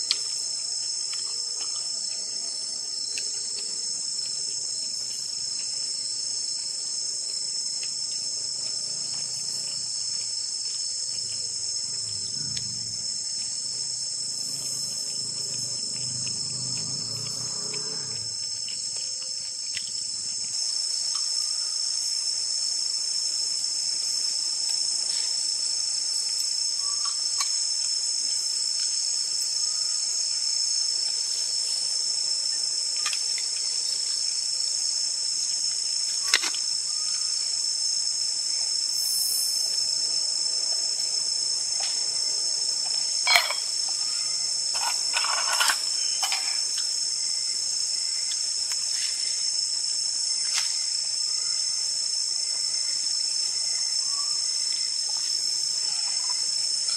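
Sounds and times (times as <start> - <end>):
night insects shrilling: 0.0 - 56.9.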